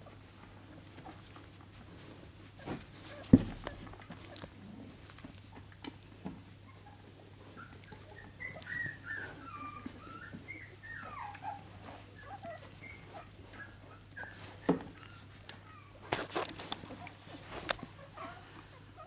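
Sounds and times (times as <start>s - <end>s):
puppies whimpering and squeaking: 0.0s - 19.0s.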